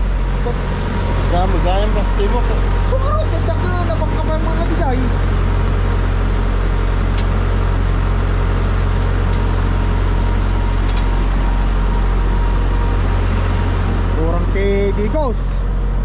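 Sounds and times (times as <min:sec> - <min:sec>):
heavy truck engine rumbling: 0:00.0 - 0:16.0.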